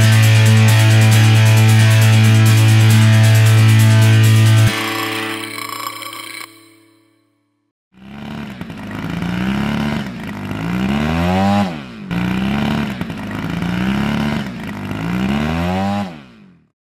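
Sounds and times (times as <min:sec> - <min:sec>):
engine revving: 0:00.0 - 0:05.4, 0:08.0 - 0:16.7.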